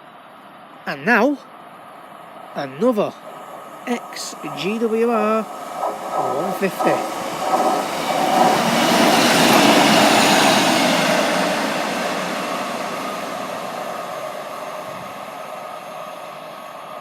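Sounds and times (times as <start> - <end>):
diesel train passing: 0.0 - 17.0.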